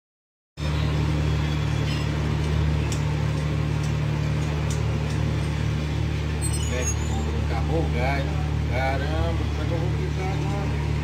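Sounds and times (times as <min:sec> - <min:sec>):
machinery droning: 0:00.6 - 0:11.0.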